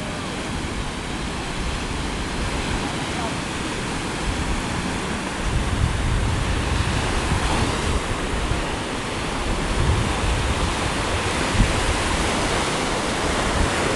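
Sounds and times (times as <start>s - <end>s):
ocean surf breaking on beach: 0.0s - 13.9s
wind buffeting microphone: 0.0s - 13.9s.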